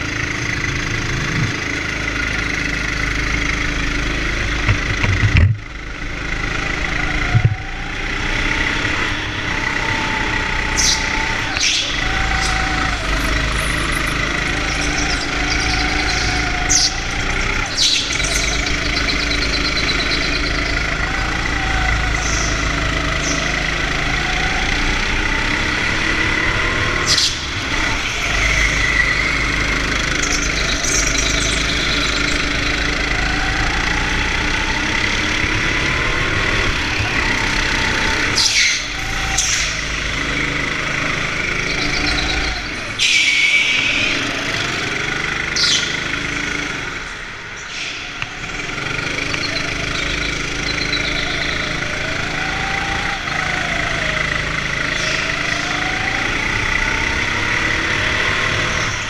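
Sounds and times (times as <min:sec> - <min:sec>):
go-kart motor running: 0:00.0 - 0:59.0.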